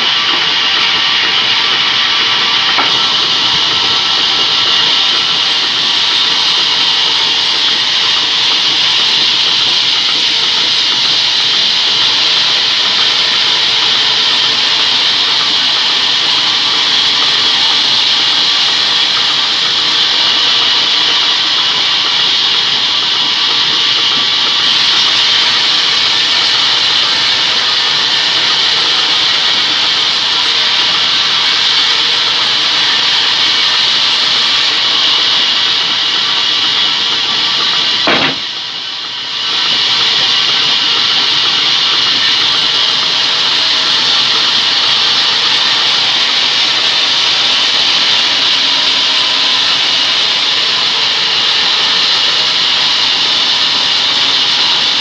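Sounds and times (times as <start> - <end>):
band saw cutting log: 0.0 - 23.0, 24.0 - 38.6, 39.3 - 55.0.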